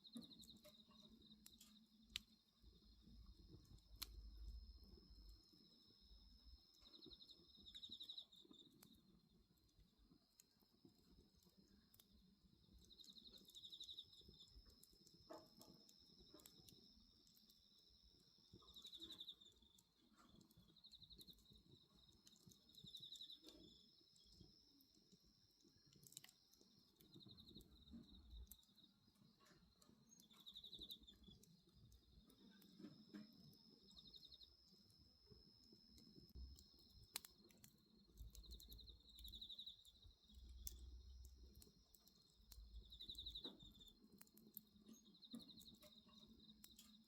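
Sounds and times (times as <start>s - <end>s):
insect pulsed chirp: 0.0s - 47.0s
insects trilling: 0.0s - 47.0s
bonfire crackling: 0.1s - 47.0s.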